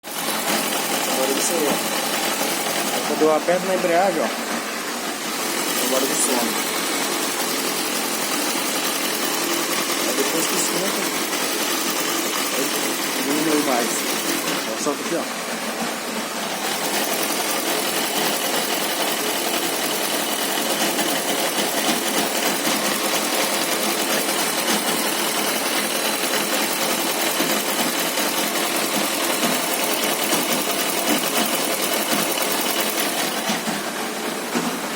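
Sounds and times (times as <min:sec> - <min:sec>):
motorcycle engine idling with rattle: 0:00.1 - 0:34.9.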